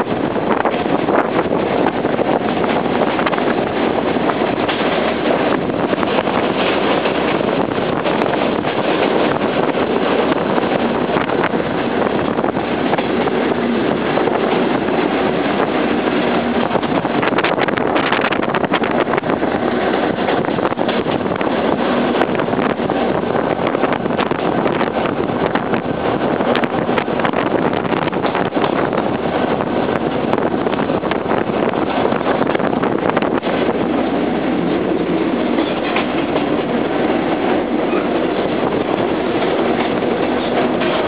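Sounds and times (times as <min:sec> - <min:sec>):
wind on microphone: 0:00.0 - 0:41.0.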